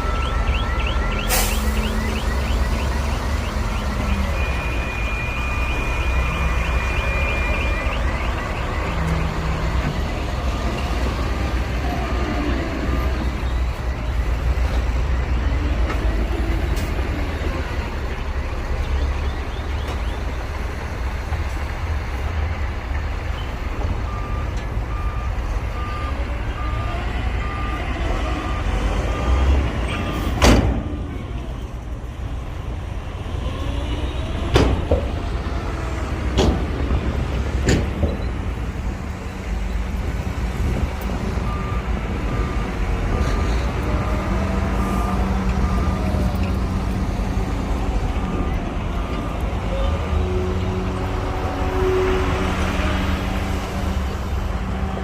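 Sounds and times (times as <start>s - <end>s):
reversing alarm beeping: 0.0s - 21.6s, 22.2s - 30.4s, 37.8s - 54.1s.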